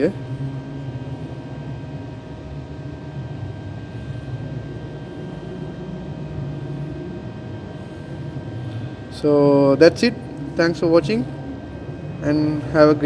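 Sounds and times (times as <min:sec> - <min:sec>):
faint whining tones: 0:00.0 - 0:13.0
low background hum: 0:00.0 - 0:13.0.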